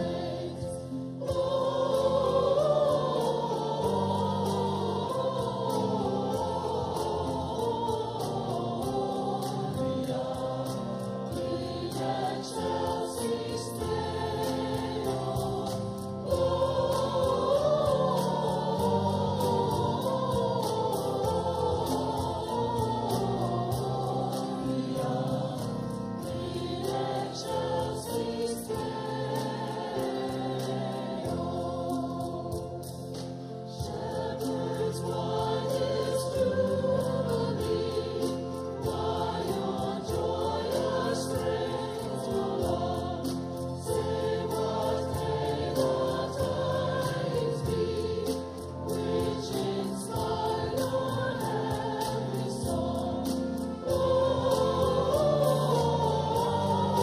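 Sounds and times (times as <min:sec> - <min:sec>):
church choir singing a carol: 0:00.0 - 0:57.0.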